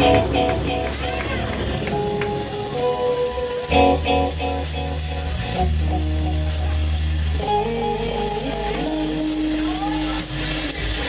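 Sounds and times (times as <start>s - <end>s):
guitar chords: 0.0s - 11.0s
held bass notes: 0.0s - 11.0s
light percussion: 0.0s - 11.0s.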